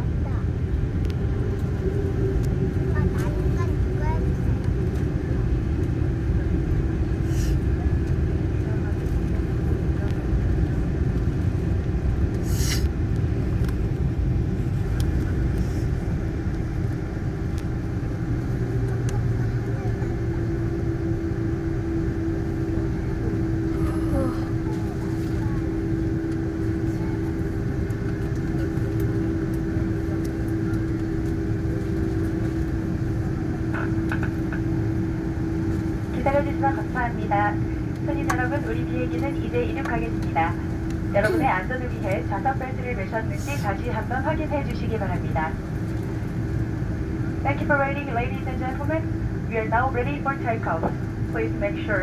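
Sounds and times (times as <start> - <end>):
airliner cabin rumble: 0.0 - 52.0
jet engines idling: 0.0 - 52.0.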